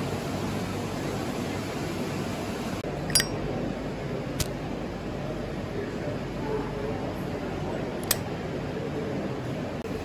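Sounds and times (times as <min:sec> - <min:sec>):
machinery hum and hiss: 0:00.0 - 0:10.0.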